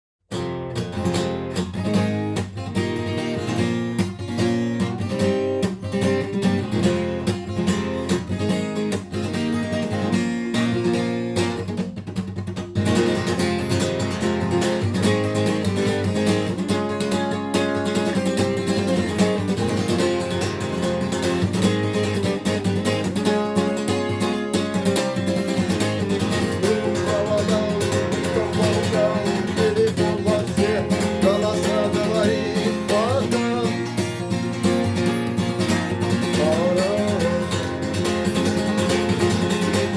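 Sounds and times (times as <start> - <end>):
acoustic guitar strumming: 0.3 - 39.9.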